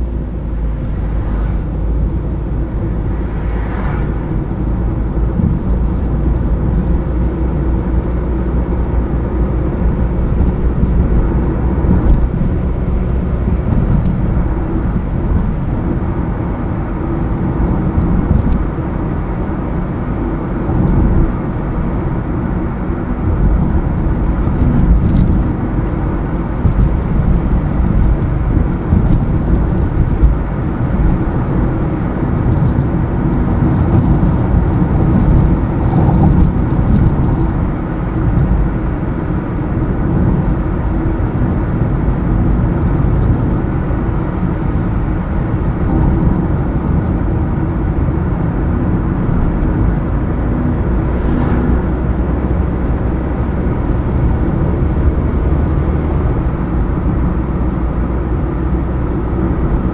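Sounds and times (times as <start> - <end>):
car engine and tyre road noise: 0.0 - 59.9.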